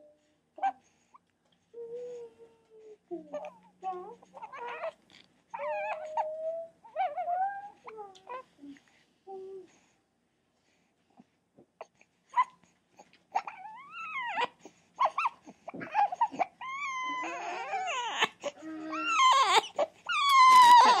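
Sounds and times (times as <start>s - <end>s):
young child whining and fussing: 1.7s - 10.0s, 12.3s - 21.0s.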